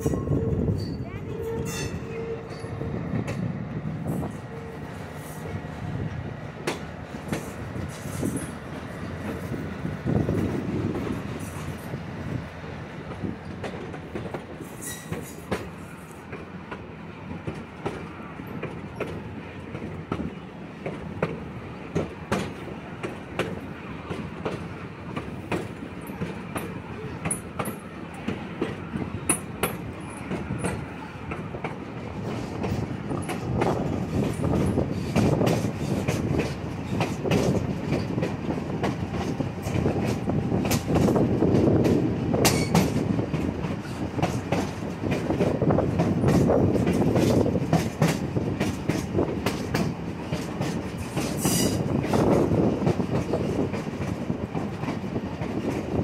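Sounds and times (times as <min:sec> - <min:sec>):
train cars rumbling: 0:00.0 - 0:56.0
wheels clanking over rail joints: 0:00.0 - 0:56.0.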